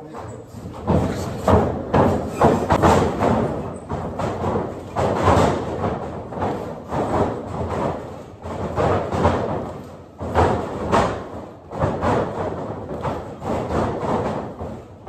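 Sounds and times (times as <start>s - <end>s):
heavy thuds: 0.0s - 15.0s.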